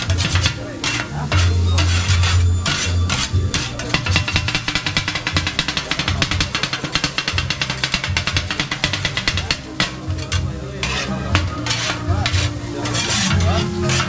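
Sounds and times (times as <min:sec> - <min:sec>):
metal blades clanging on griddle: 0:00.0 - 0:14.0.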